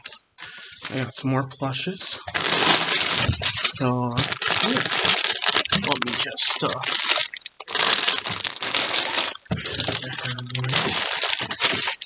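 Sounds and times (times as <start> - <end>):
plastic bags crinkling: 0.0 - 1.1, 2.0 - 12.0.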